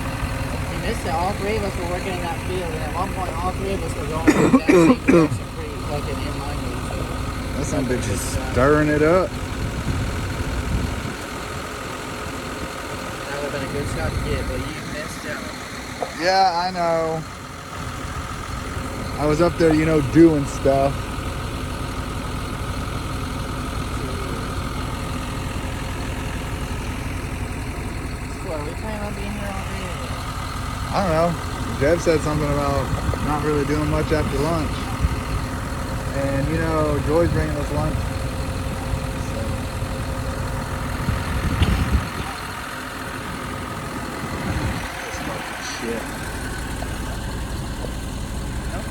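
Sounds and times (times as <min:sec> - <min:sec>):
tractor diesel engine idling: 0:00.0 - 0:48.9.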